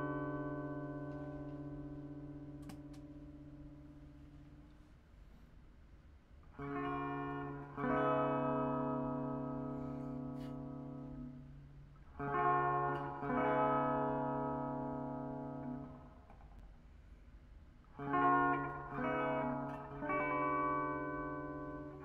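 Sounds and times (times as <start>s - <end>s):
electric guitar chords ringing: 0.0s - 4.7s, 6.5s - 16.6s, 17.8s - 22.0s.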